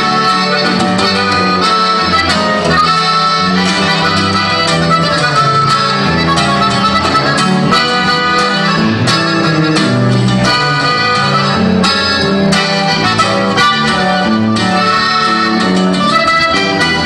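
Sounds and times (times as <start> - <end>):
button accordion melody: 0.0 - 17.0
electric bass: 0.0 - 17.0
guitar: 0.0 - 17.0.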